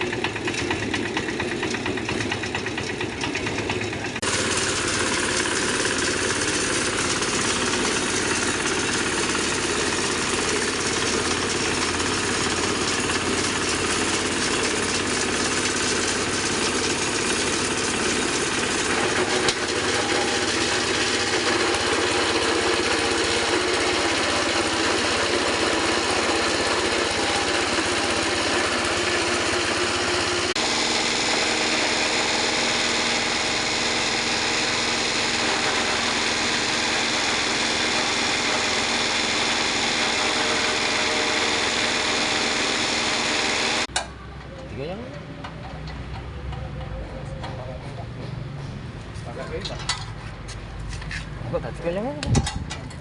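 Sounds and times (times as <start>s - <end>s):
grinding machine running: 0.0s - 43.9s.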